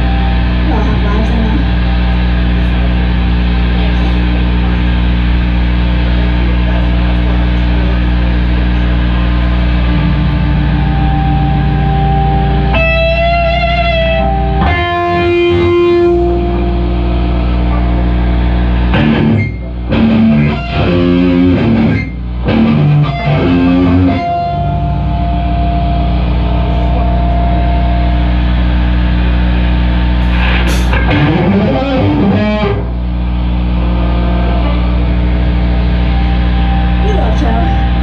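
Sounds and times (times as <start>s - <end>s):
live band with electric guitar: 0.0s - 38.0s.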